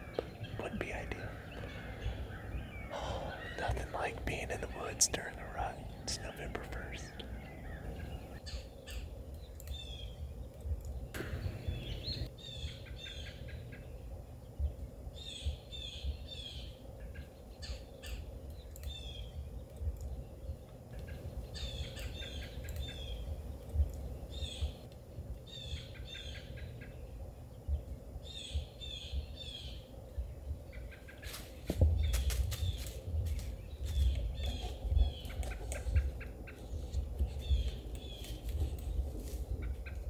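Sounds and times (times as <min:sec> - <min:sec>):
songbird calling: 0:00.0 - 0:40.0.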